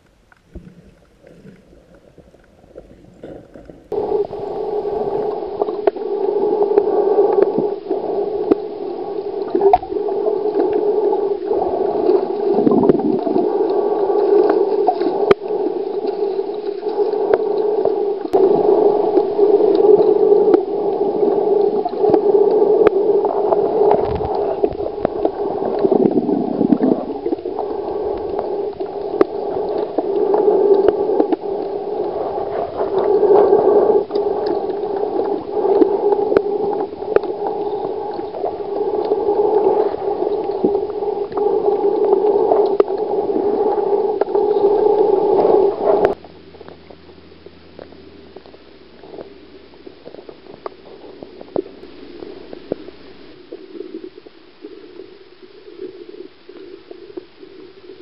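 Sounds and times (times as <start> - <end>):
small underwater clicks: 0.0 - 6.0, 8.4 - 18.5, 19.1 - 58.0
underwater water rush: 0.0 - 58.0.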